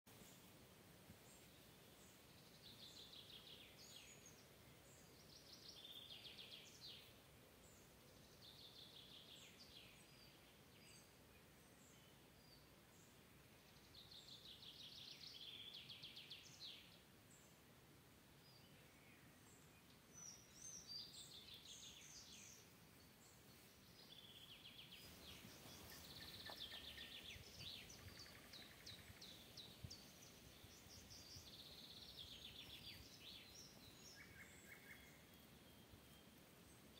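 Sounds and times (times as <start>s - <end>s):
faint steady hiss: 0.1s - 36.9s
songbirds singing trilled phrases: 1.4s - 17.5s, 18.5s - 36.9s.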